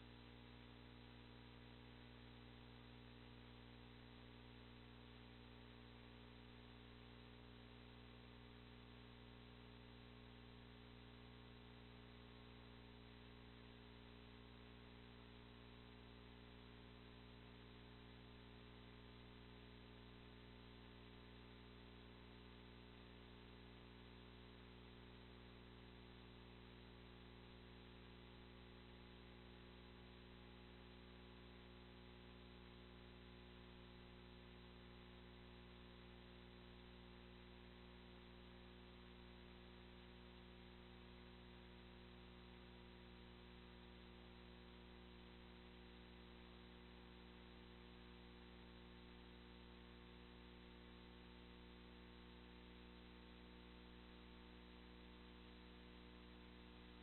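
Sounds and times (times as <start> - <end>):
faint electrical hum with hiss: 0.0 - 57.0.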